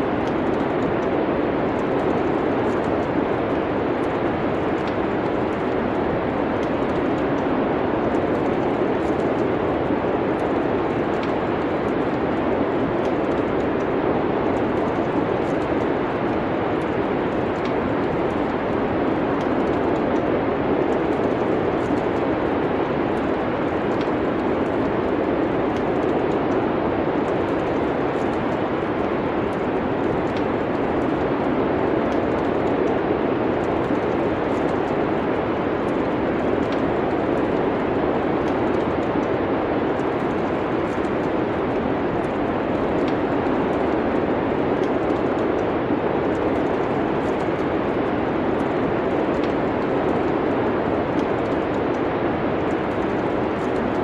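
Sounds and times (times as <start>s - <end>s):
steady rushing noise: 0.0s - 54.0s
wood fire crackling: 0.0s - 54.0s.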